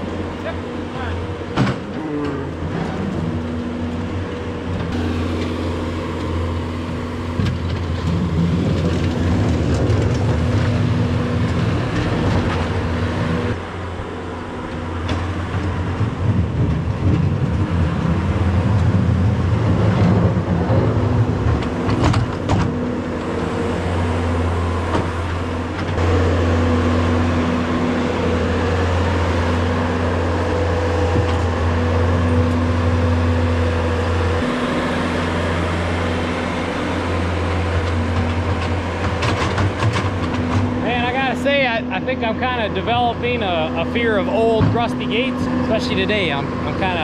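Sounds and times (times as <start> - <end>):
diesel loader engine working: 0.0 - 47.0.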